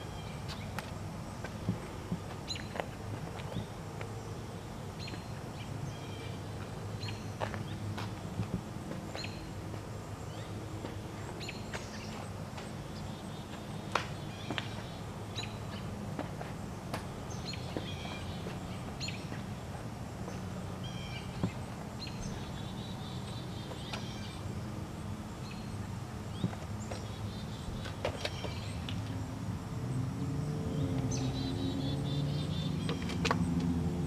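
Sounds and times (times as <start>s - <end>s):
steady low hum: 0.0s - 32.8s
songbirds chirping: 0.0s - 34.0s.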